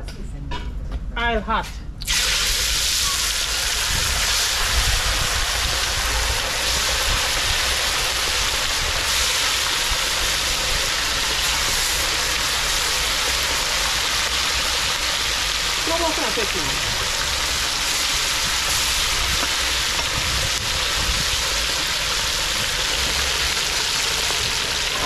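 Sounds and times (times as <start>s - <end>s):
fish sizzling in hot oil: 2.0s - 25.0s.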